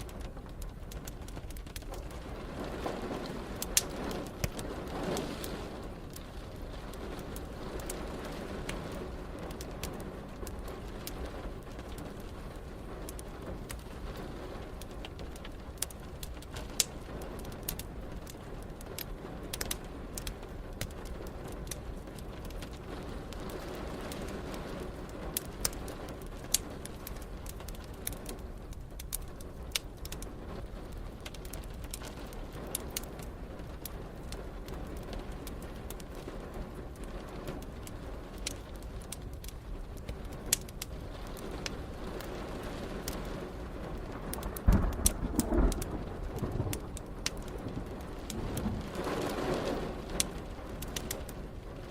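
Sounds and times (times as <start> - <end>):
rain hissing: 0.0 - 51.9
wood fire crackling: 0.0 - 51.9.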